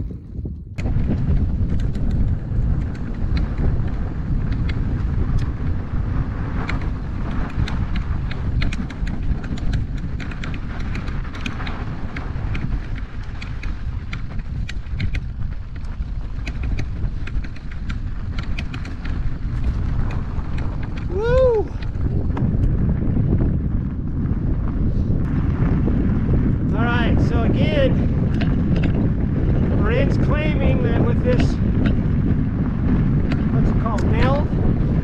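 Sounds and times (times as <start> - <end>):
bike tyres clicking and rattling: 0.0 - 35.0
wind on microphone: 0.0 - 35.0.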